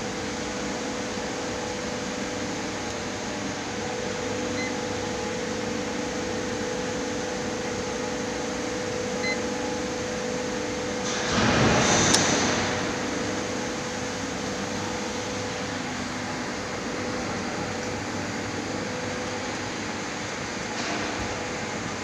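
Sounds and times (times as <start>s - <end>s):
press brake machine humming: 0.0s - 22.0s.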